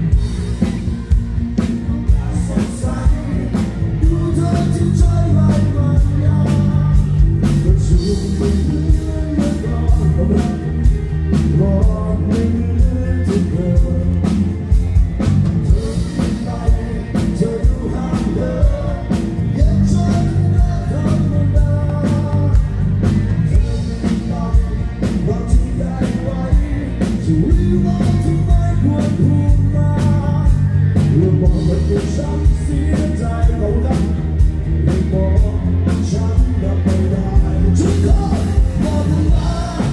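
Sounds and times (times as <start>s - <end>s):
man singing: 0.0s - 39.9s
rock band through pa system: 0.0s - 39.9s
steady drum beat: 0.0s - 39.9s.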